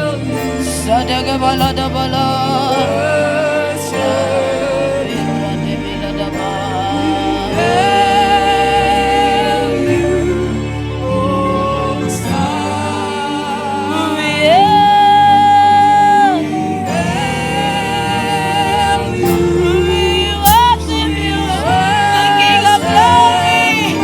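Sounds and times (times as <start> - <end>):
gospel lead singing held notes: 0.0 - 24.0.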